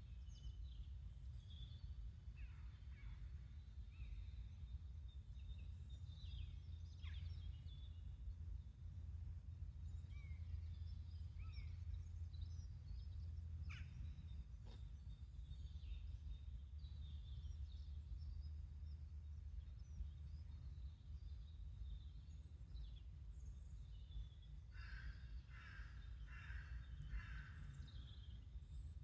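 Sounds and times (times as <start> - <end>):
steady low rumble: 0.1 - 24.7.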